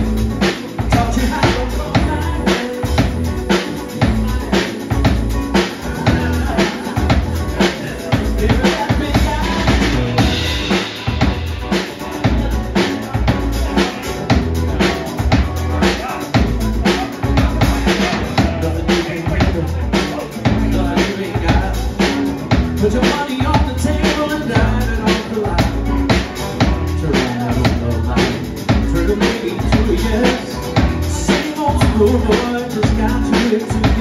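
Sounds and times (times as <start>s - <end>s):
drum kit beat: 0.0s - 34.0s
electric guitar playing: 0.0s - 34.0s.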